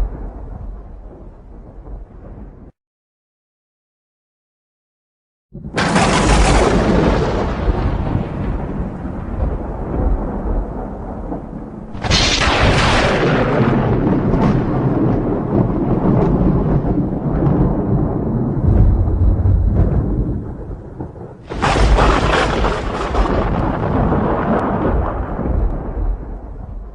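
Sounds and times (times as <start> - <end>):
thunder cracking and rumbling: 0.0 - 2.8, 5.5 - 26.9.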